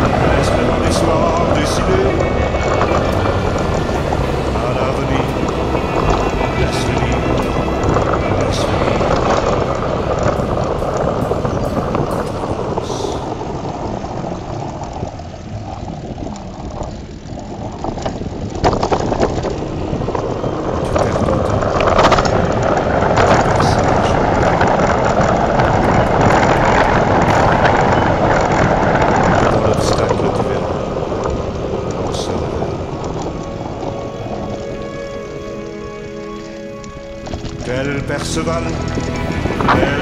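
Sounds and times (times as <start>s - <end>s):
vehicle engine and road noise: 0.0s - 40.0s.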